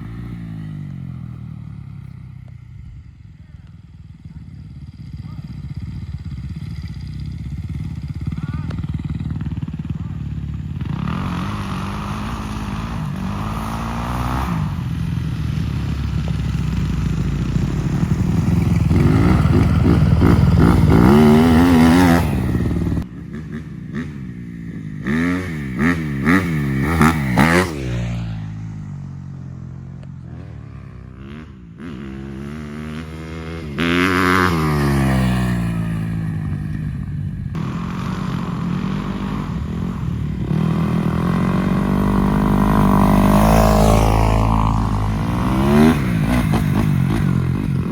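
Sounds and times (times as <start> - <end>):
dirt bike engine revving: 4.7 - 47.9.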